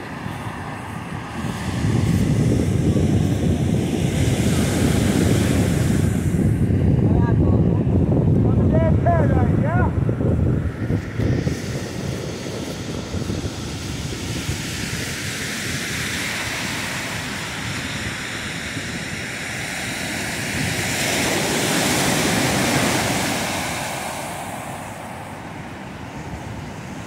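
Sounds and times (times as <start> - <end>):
ocean surf breaking on beach: 0.0 - 27.0
wind rumbling on microphone: 0.0 - 27.0.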